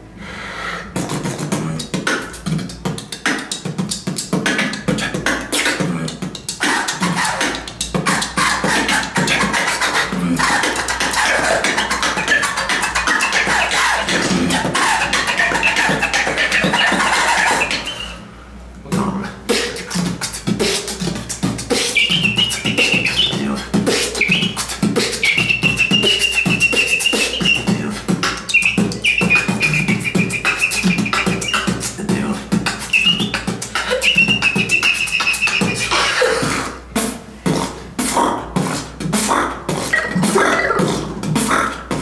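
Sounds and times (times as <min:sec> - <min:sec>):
beatboxing drum sounds: 0:00.0 - 0:42.0
whistle-like vocal melody: 0:00.9 - 0:18.4, 0:19.5 - 0:41.9
warbling scratch-like vocal sounds: 0:04.4 - 0:18.2, 0:18.9 - 0:36.8, 0:37.6 - 0:42.0.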